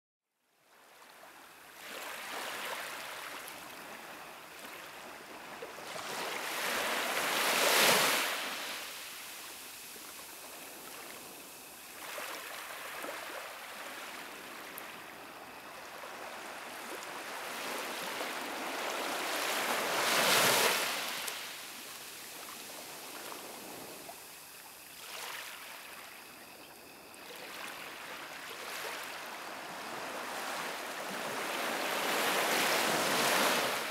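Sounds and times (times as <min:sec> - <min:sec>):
waves washing onto sand: 0:01.8 - 0:26.4, 0:27.1 - 0:33.9.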